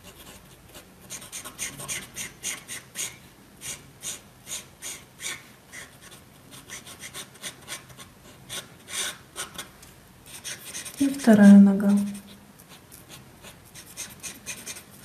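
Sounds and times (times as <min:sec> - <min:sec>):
marker rubbing on paper: 0:00.0 - 0:09.7, 0:10.3 - 0:15.0.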